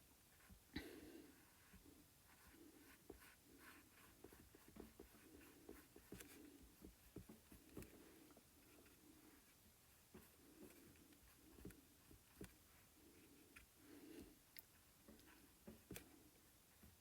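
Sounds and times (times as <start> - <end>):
paintbrush brushing and dabbing: 0.0 - 0.7, 1.3 - 17.0.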